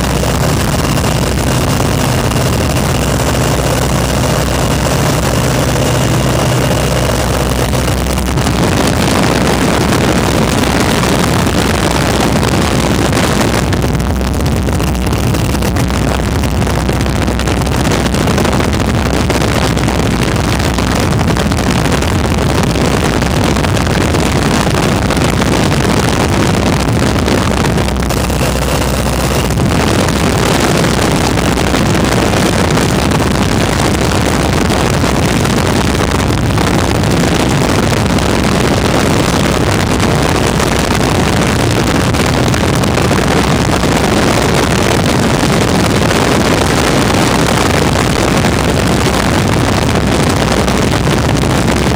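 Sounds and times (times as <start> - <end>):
biplane engine drone: 0.0 - 51.9
wind rushing over microphone: 0.0 - 51.9.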